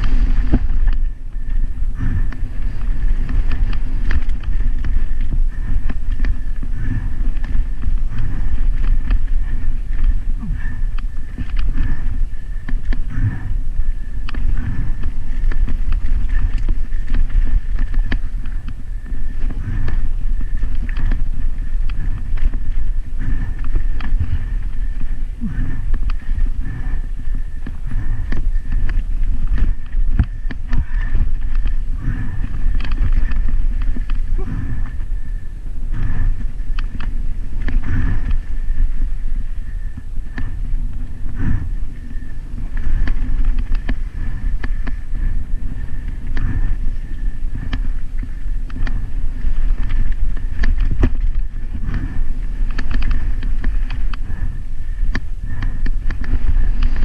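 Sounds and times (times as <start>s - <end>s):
bike rattling and knocking: 0.0s - 38.7s, 39.5s - 57.0s
low rumble: 0.0s - 57.0s.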